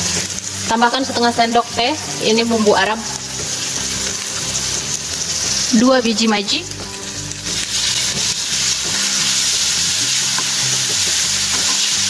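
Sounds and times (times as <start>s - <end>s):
masala sizzling in frying pan: 0.0s - 12.0s.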